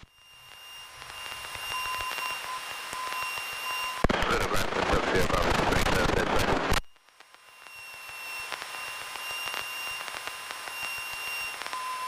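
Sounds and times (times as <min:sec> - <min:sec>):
electrical static hiss: 0:00.0 - 0:12.0
high whine: 0:00.0 - 0:12.0.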